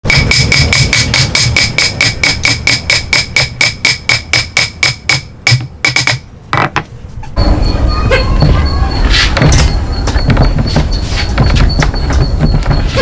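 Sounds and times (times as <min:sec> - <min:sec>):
hammer striking metal: 0:00.0 - 0:06.3, 0:07.4 - 0:13.0.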